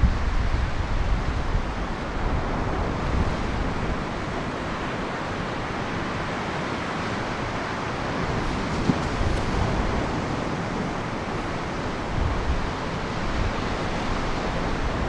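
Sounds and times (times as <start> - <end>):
wind buffeting microphone: 0.0 - 15.0
ocean surf breaking: 0.7 - 15.0.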